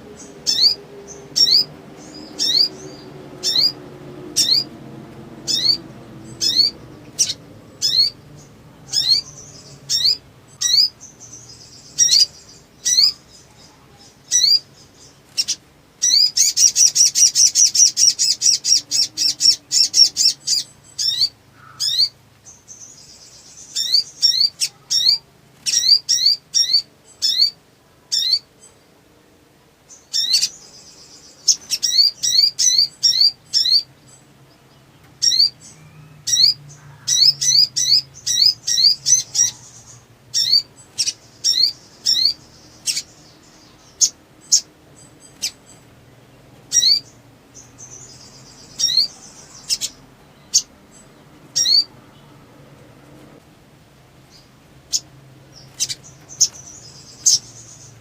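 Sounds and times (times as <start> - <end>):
bird chirping and trilling: 0.0 - 28.8, 29.9 - 52.4, 54.2 - 58.0.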